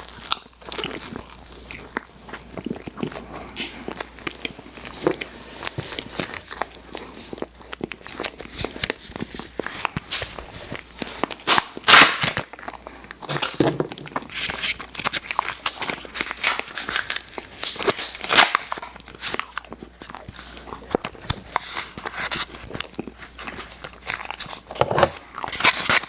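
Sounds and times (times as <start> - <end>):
chewing candy: 0.0 - 26.0.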